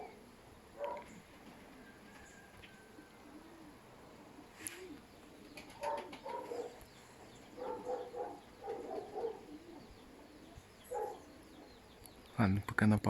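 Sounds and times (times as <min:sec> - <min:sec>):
pigeons cooing: 0:00.0 - 0:12.3.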